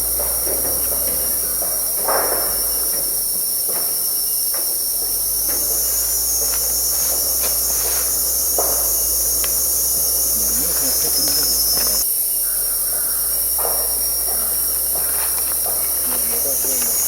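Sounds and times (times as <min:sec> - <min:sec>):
insect buzzing: 0:00.0 - 0:17.0
insect chorus drone: 0:00.0 - 0:17.0.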